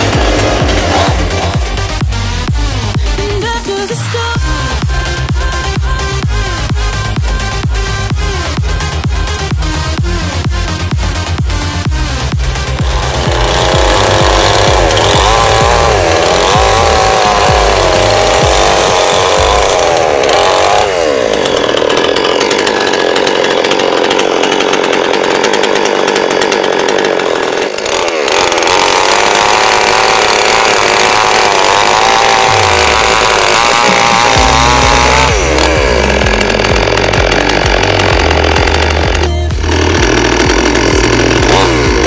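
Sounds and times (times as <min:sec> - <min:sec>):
chainsaw running at high revs: 0:00.0 - 0:42.0.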